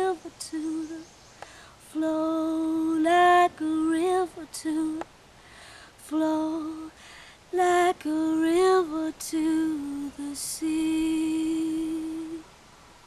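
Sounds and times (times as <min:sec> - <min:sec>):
woman singing unaccompanied: 0:00.0 - 0:05.2, 0:05.9 - 0:12.5.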